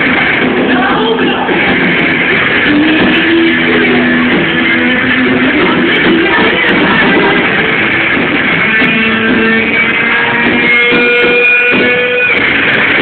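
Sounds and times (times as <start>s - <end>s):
electric guitar: 0.0s - 13.0s
rock band playing live: 0.0s - 13.0s.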